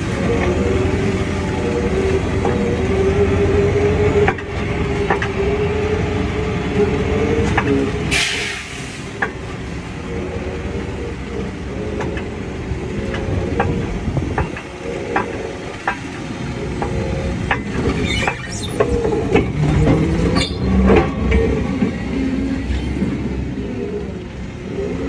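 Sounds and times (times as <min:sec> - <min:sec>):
car engine drone: 0:00.0 - 0:25.0.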